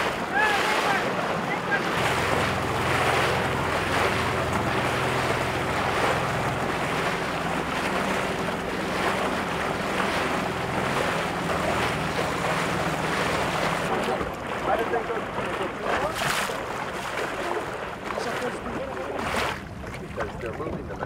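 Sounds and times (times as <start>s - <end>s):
boat engine humming: 0.0s - 21.0s
water rushing: 0.0s - 21.0s.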